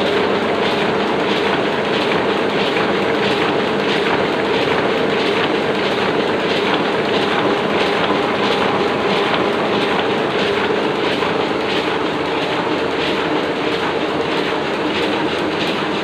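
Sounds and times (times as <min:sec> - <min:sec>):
constant machine hum: 0:00.0 - 0:16.0
printing press clatter: 0:00.0 - 0:16.0.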